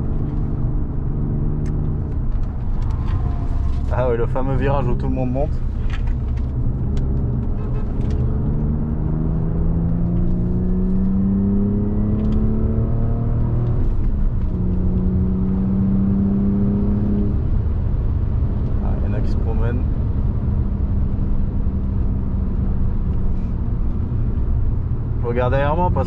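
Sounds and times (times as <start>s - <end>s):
car engine under full throttle: 0.0s - 26.0s
road and tyre rumble: 0.0s - 26.0s.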